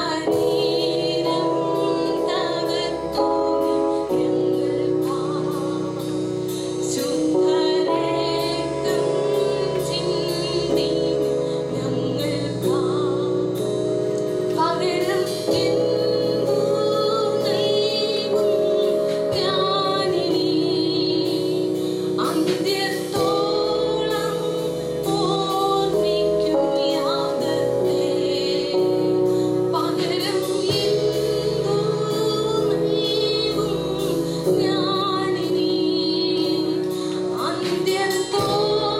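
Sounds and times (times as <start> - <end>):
sustained chords and steady beat: 0.0 - 38.9
women singing worship song: 0.0 - 38.9.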